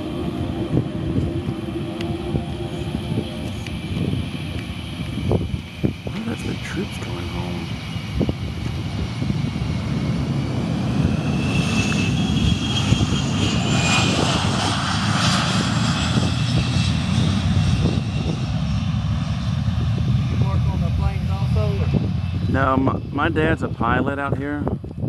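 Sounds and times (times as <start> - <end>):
jet engine whine: 0.0 - 25.0
jet engines rumbling: 0.0 - 25.0.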